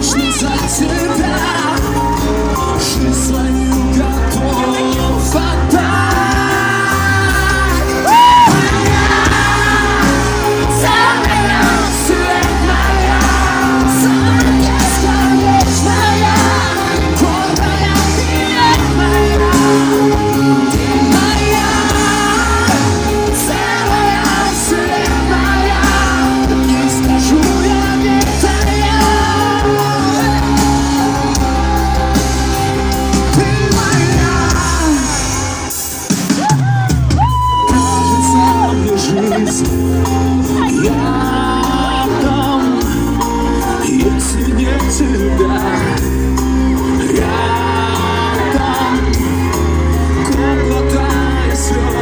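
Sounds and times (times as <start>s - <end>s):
live pop rock band: 0.0s - 52.0s
person singing: 0.0s - 52.0s.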